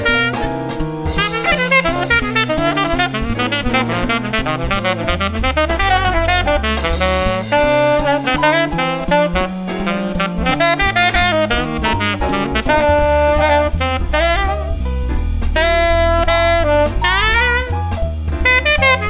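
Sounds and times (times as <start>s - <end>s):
bass and drums backing: 0.0s - 19.0s
saxophone jazz solo: 0.0s - 19.0s.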